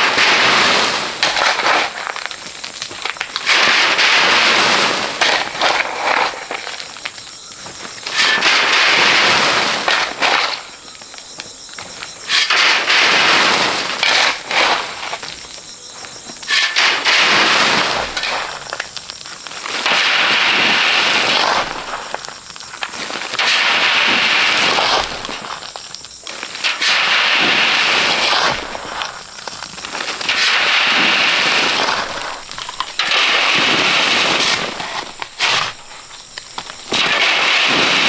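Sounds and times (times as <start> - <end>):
sand being dug and tipped: 0.0 - 38.0.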